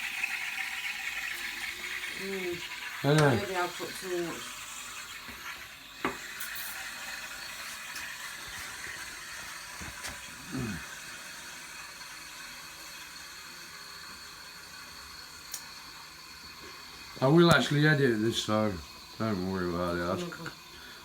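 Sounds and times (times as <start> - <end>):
steam wand hissing: 0.0 - 21.0.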